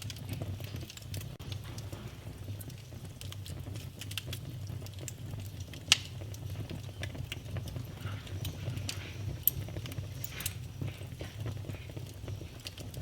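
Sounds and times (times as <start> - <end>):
sharp fire pops: 0.0 - 13.0
wood fire crackling: 0.0 - 13.0.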